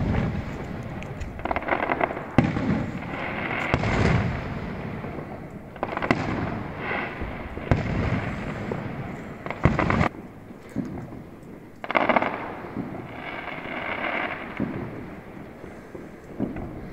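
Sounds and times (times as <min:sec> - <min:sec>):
firework crackle: 0:00.0 - 0:16.9
firework shells bursting: 0:00.0 - 0:16.9.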